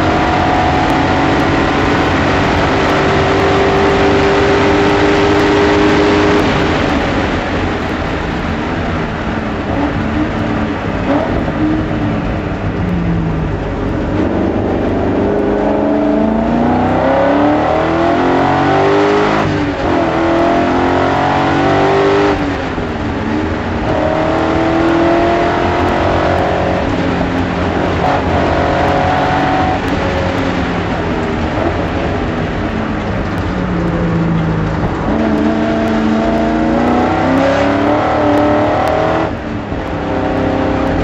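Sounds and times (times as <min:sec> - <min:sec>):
race car engine accelerating: 0:00.0 - 0:41.0.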